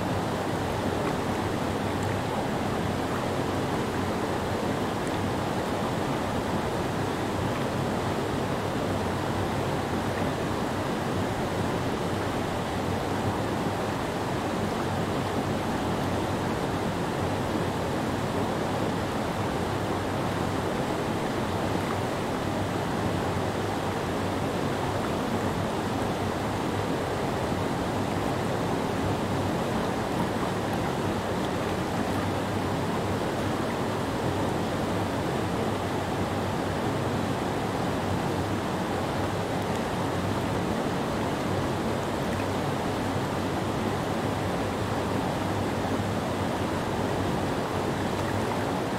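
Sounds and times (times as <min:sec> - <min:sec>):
whitewater rushing over rocks: 0:00.0 - 0:48.9.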